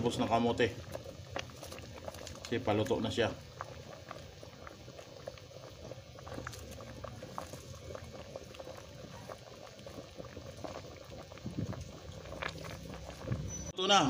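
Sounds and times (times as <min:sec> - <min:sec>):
broth bubbling at a boil: 0:00.0 - 0:13.8.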